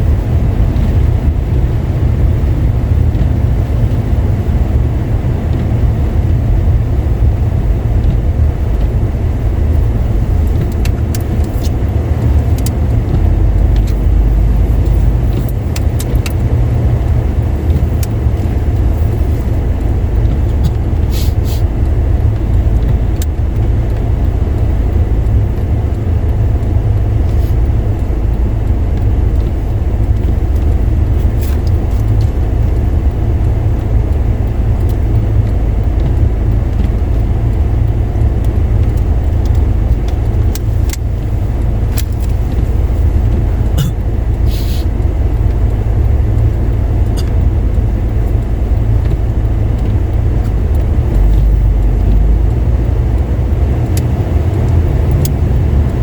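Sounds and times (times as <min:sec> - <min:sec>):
car driving on slushy road: 0:00.0 - 0:56.0.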